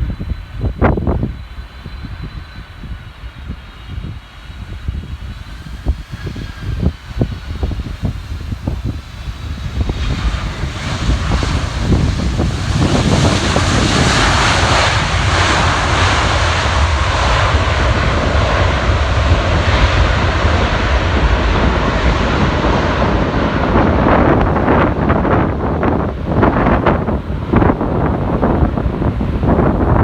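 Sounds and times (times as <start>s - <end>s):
jet engines roaring: 0.0s - 30.0s
wind rumbling on microphone: 0.0s - 30.0s.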